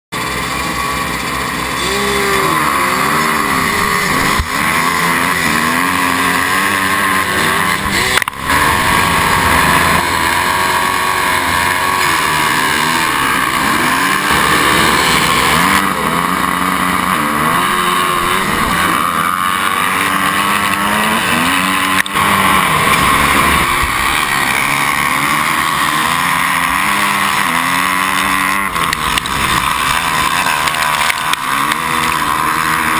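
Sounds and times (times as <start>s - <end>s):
other motorbikes running: 0.1s - 32.9s
motocross bike engine revving: 0.2s - 32.9s.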